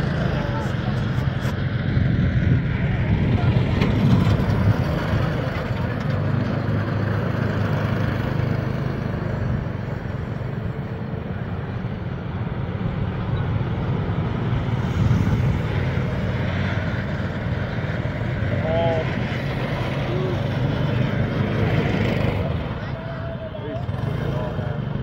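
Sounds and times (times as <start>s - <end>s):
kart engines droning: 0.0s - 25.0s.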